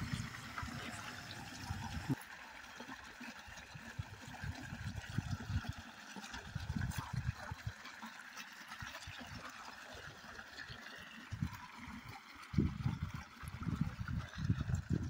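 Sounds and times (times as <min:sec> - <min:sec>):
water gushing from pipe: 0:00.0 - 0:15.0.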